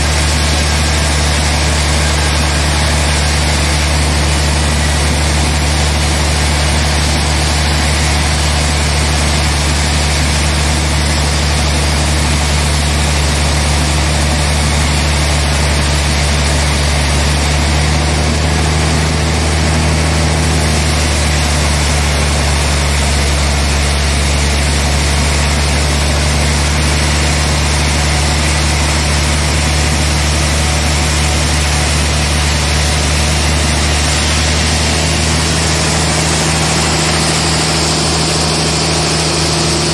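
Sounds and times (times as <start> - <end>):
band sawmill droning: 0.0 - 39.9.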